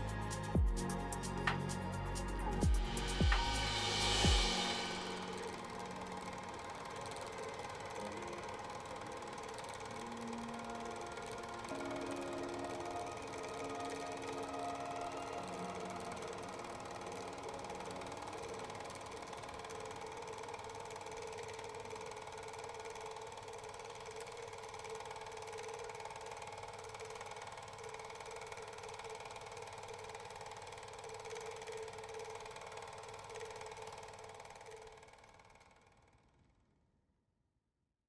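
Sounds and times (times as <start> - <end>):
film projector whirring clatter: 4.6 - 36.1.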